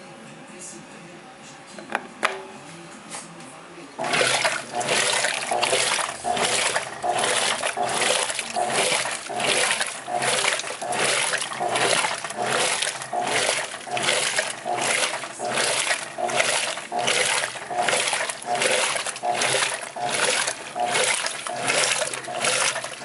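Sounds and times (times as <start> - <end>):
washing machine agitating water: 4.0 - 23.0.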